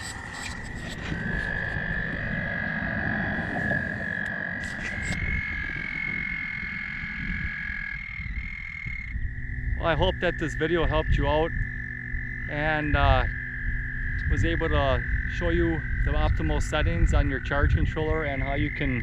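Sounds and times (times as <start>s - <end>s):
frogs trilling: 0.0s - 19.0s
low rumble: 0.0s - 19.0s.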